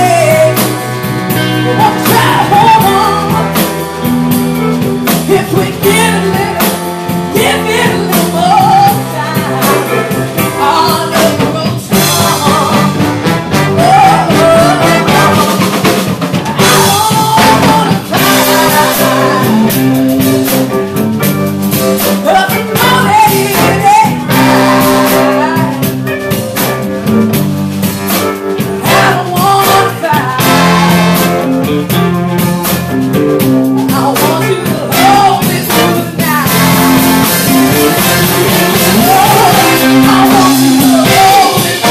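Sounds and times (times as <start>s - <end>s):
woman singing: 0.0s - 20.6s, 22.1s - 26.4s, 28.7s - 31.2s, 33.7s - 41.9s
live soul band playing: 0.0s - 41.9s.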